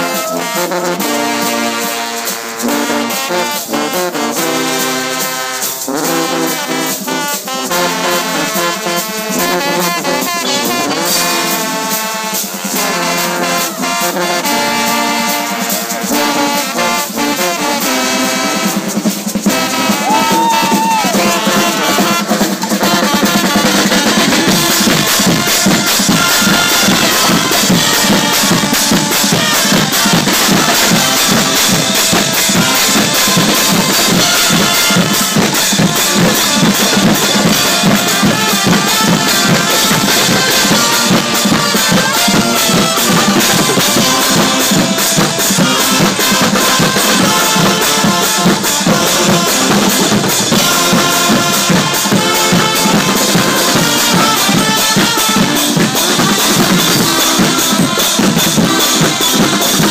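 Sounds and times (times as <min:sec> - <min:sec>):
brass band playing: 0:00.0 - 0:59.9
drums and cymbals beat: 0:00.0 - 0:59.9.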